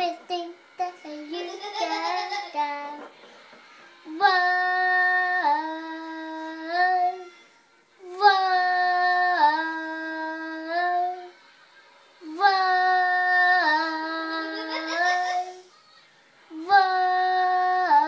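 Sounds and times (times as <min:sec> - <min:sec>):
young boy singing unaccompanied: 0:00.0 - 0:03.1, 0:04.0 - 0:07.3, 0:08.0 - 0:11.3, 0:12.2 - 0:15.7, 0:16.5 - 0:18.0.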